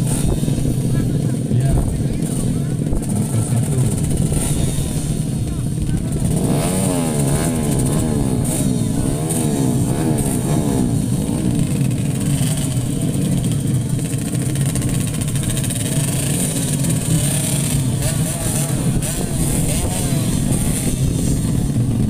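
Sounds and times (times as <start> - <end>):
racing motorcycles revving: 0.0 - 22.0
steady engine drone: 0.0 - 22.0.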